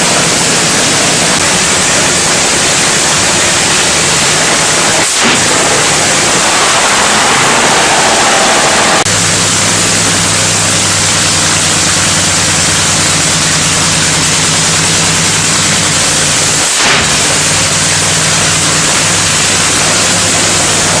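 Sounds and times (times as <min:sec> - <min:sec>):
racing engines idling: 0:00.0 - 0:21.0
racing engines revving harshly: 0:00.0 - 0:21.0.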